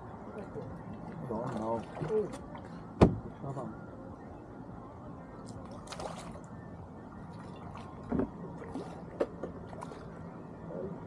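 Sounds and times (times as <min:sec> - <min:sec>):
water lapping and trickling: 0:00.0 - 0:11.0.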